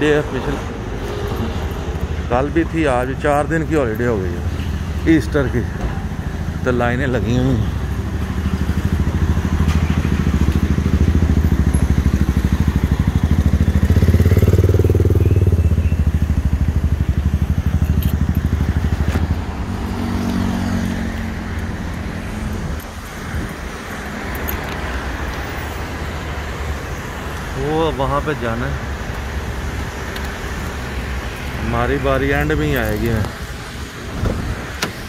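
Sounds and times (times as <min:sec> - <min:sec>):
vehicle engines running: 0:00.0 - 0:35.0
vehicle passing: 0:00.0 - 0:35.0.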